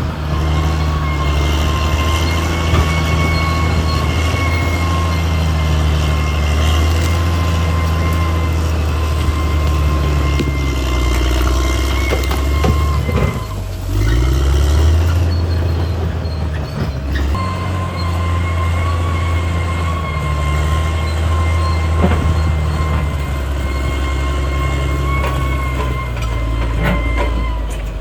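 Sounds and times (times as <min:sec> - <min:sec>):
bulldozer diesel engine revving: 0:00.0 - 0:28.0
steady high squeal: 0:00.0 - 0:28.0.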